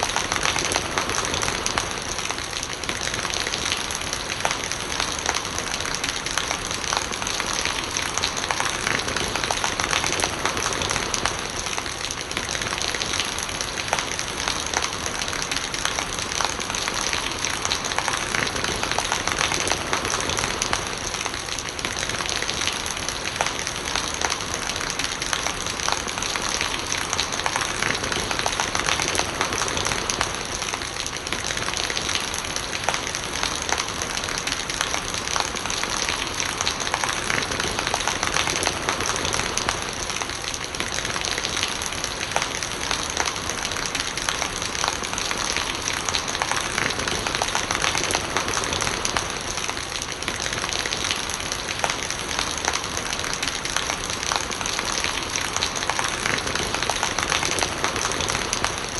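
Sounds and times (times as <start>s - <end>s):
rain pattering: 0.0s - 58.9s
rainwater gurgling: 0.0s - 58.9s.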